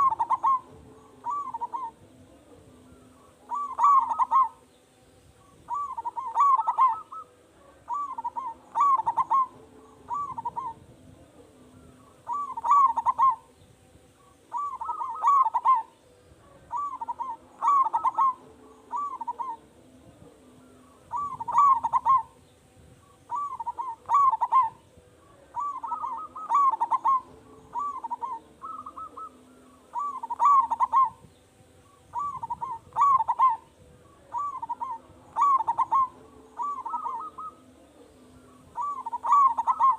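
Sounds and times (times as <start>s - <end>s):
dove cooing: 0.0s - 4.7s, 5.4s - 13.6s, 14.2s - 39.9s.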